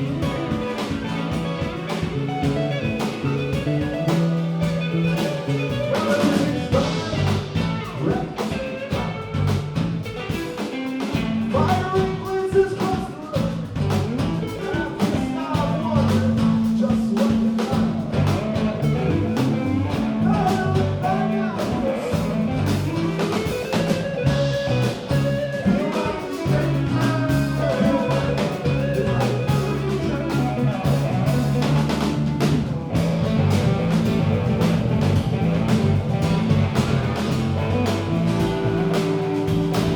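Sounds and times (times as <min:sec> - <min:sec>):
guitar lines: 0:00.0 - 0:39.9
live blues rock band: 0:00.0 - 0:39.9.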